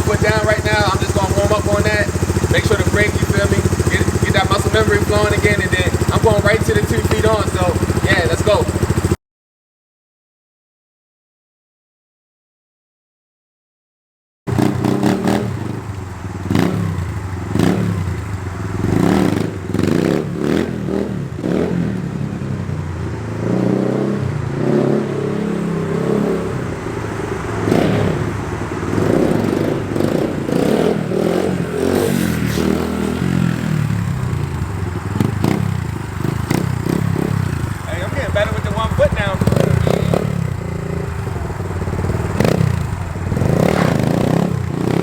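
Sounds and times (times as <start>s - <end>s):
dirt bike engine revving: 0.0s - 9.2s, 14.5s - 45.0s.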